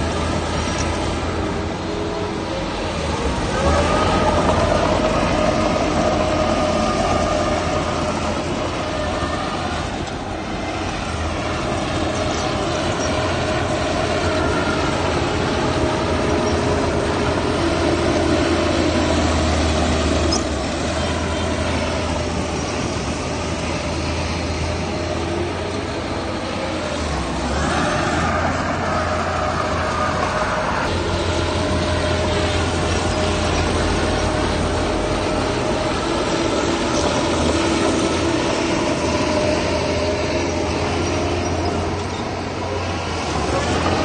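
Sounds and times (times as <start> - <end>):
vehicle engine rumble: 0.0 - 44.0.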